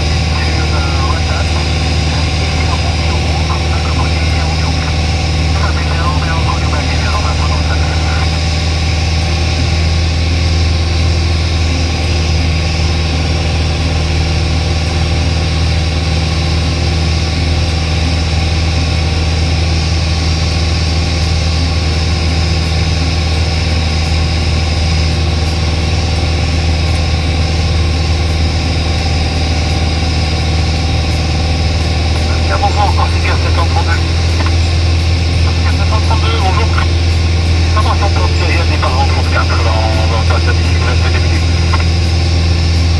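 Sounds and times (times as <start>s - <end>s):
aircraft engine and propeller droning: 0.0s - 42.9s.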